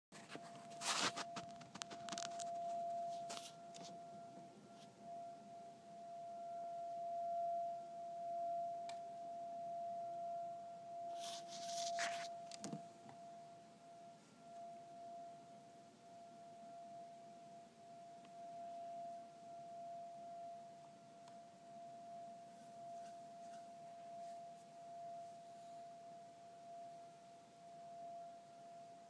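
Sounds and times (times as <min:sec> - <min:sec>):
steady high-pitched tone: 0:00.2 - 0:29.0.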